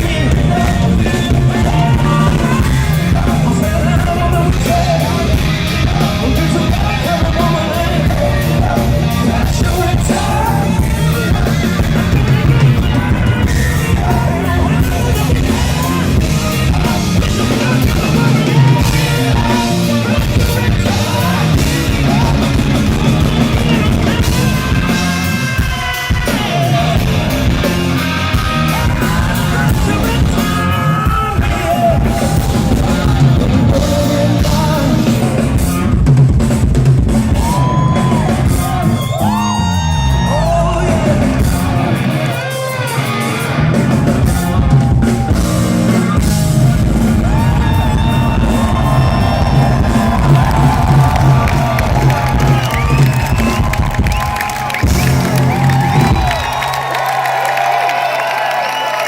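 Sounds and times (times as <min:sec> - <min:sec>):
man singing: 0:00.0 - 0:36.1, 0:37.3 - 0:54.1
drums: 0:00.0 - 0:59.0
electric guitar: 0:00.0 - 0:59.0.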